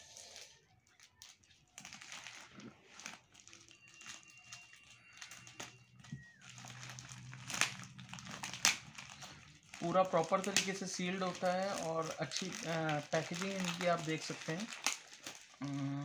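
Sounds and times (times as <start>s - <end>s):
plastic mailer bag crinkling: 0.1s - 16.0s.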